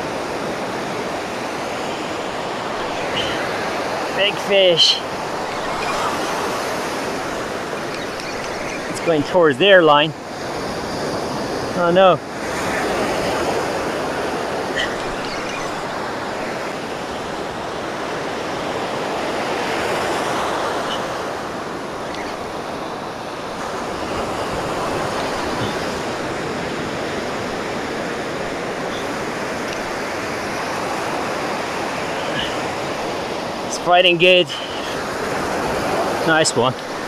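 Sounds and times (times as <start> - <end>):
ocean surf breaking: 0.0 - 37.0.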